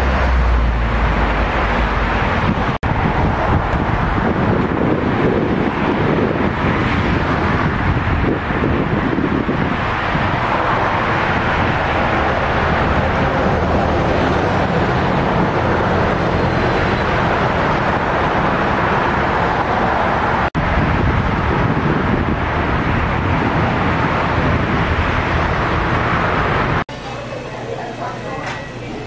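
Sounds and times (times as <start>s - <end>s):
road vehicle rushing noise: 0.0s - 26.9s.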